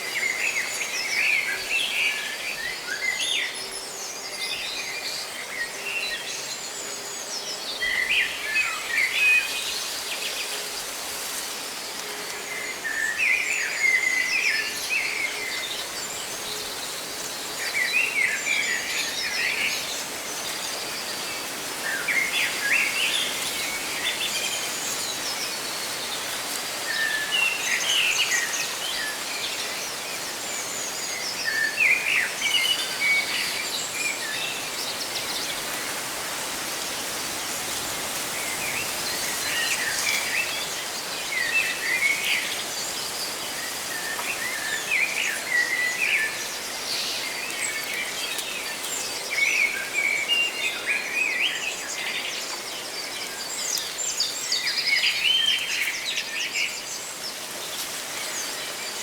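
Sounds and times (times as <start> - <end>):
leaves rustling in wind: 0.0 - 59.0.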